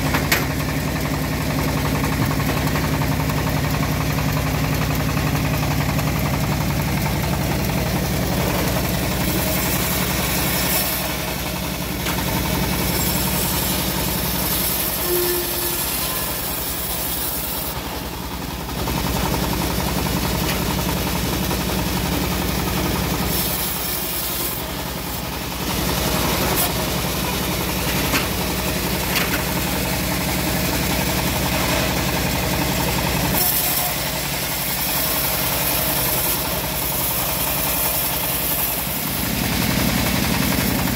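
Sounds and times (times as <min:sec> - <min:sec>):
engine droning: 0:00.0 - 0:40.9
bandsaw blade cutting log: 0:01.7 - 0:40.9.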